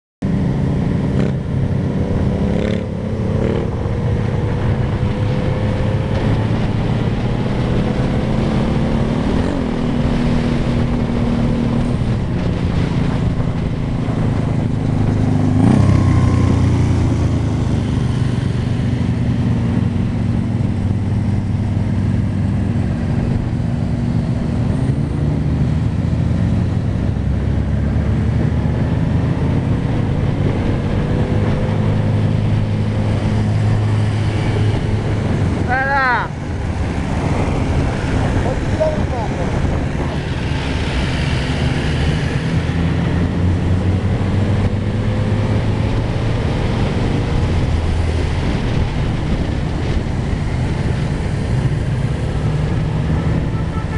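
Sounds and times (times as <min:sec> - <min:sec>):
motorcycle engine running: 0:00.2 - 0:53.9
wind rushing: 0:00.5 - 0:53.9.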